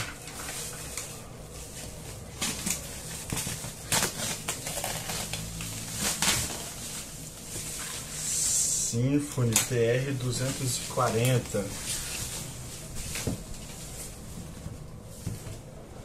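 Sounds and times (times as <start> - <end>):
cardboard rustling and scraping: 0.0 - 8.2, 9.7 - 16.0
steady low hum: 0.0 - 16.0.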